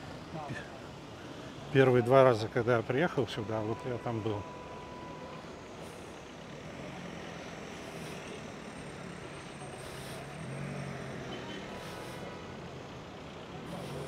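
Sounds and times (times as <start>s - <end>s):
vehicle engines running: 0.0s - 14.0s.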